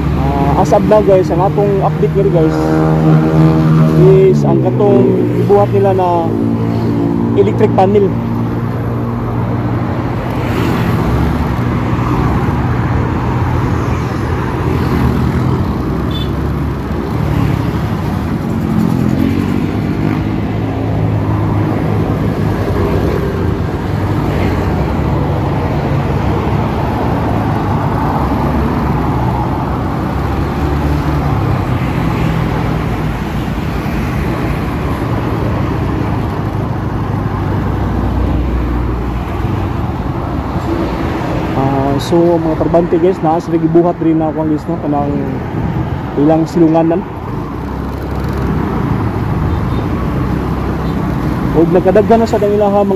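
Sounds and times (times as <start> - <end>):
road traffic passing: 0.0 - 52.9.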